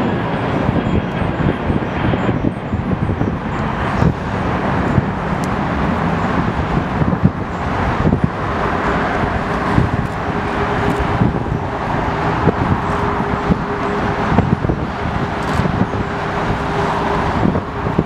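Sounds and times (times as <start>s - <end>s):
distant jet rumble: 0.0s - 18.0s
wind buffeting microphone: 0.0s - 18.0s.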